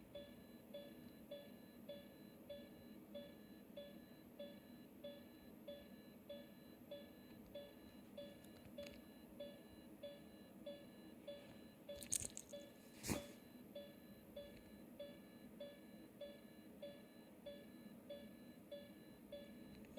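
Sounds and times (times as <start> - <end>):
heart monitor beeping: 0.0 - 19.9.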